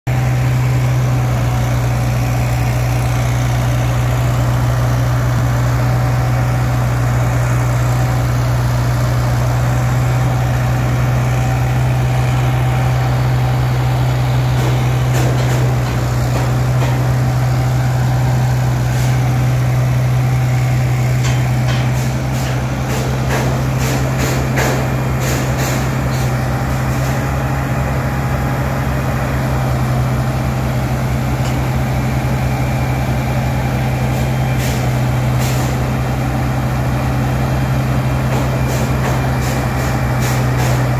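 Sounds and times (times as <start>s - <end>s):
heavy machinery engine droning: 0.1s - 40.9s.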